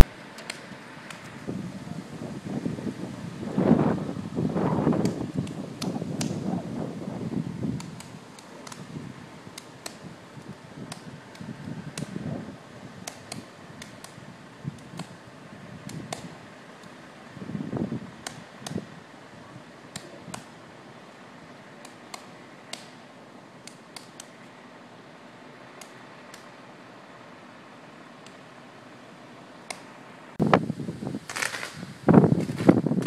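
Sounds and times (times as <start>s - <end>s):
power line crackling: 0.0s - 33.0s
steady hiss: 0.0s - 33.0s.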